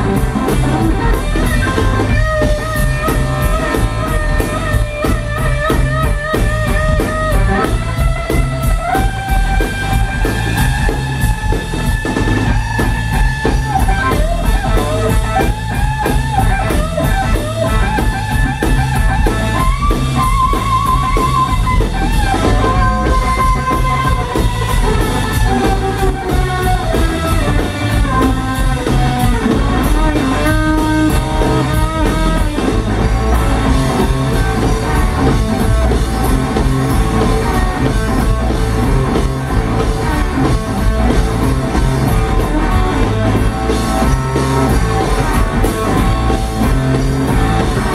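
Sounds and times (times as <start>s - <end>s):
drum kit groove: 0.0s - 47.9s
electric bass: 0.0s - 47.9s
electric guitar lead: 0.0s - 47.9s.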